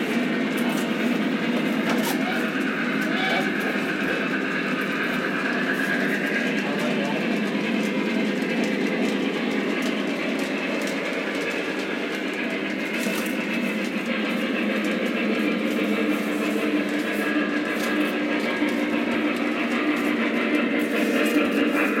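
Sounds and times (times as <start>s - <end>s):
model train rolling rumble: 0.0s - 22.0s.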